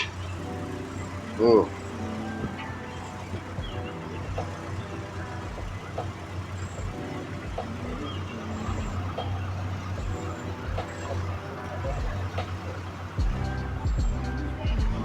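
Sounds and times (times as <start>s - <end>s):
faint voices: 0.0s - 15.0s
vehicle engine idling: 0.0s - 15.0s.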